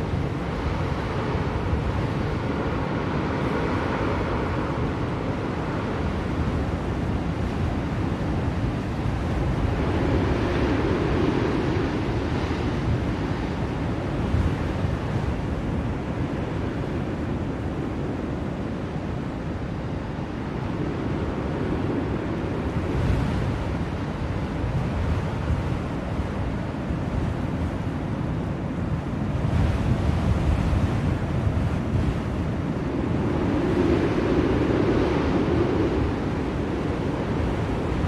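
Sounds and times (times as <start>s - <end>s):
blizzard wind gusting: 0.0s - 38.0s.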